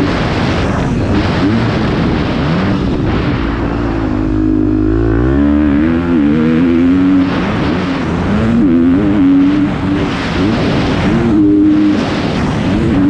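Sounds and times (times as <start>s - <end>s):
dirt bike engine revving: 0.0s - 13.0s
wind noise on microphone: 0.0s - 13.0s.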